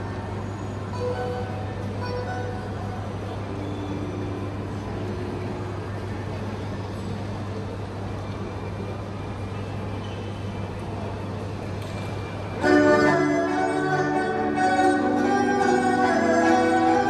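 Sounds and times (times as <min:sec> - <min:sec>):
crowd murmur: 0:00.0 - 0:17.0.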